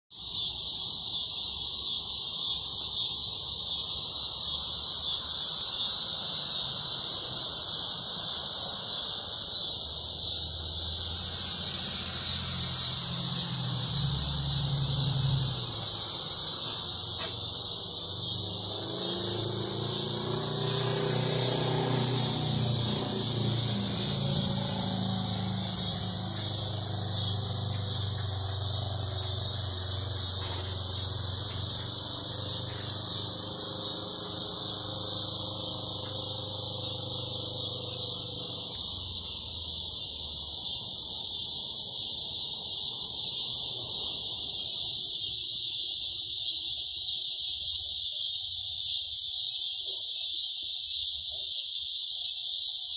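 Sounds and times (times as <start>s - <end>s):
cicadas chorus: 0.1s - 52.9s.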